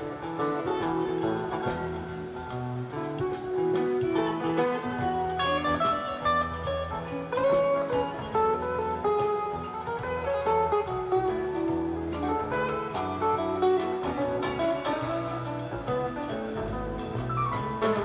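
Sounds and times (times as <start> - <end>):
bass guitar: 0.0 - 18.0
lead guitar melodic runs: 0.0 - 18.0
rock band playing: 0.0 - 18.0.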